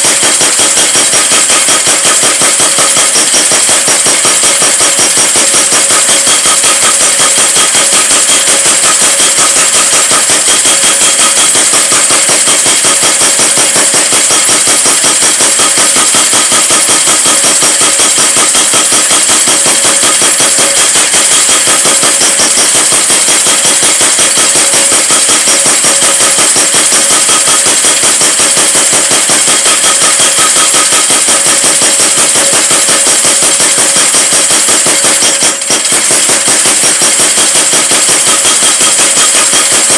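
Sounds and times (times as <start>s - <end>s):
power hammer striking metal: 0.0s - 39.9s.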